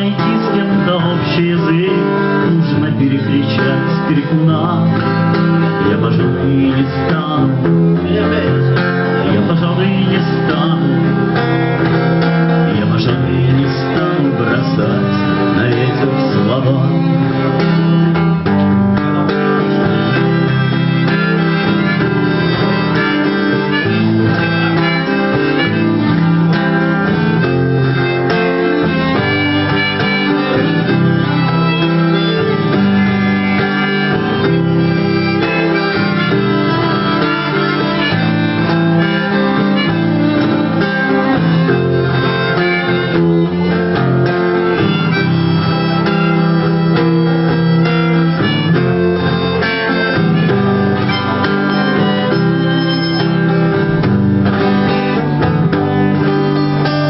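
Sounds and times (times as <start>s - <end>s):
acoustic guitar playing: 0.0s - 57.0s
solo lead instrument melody: 0.0s - 57.0s.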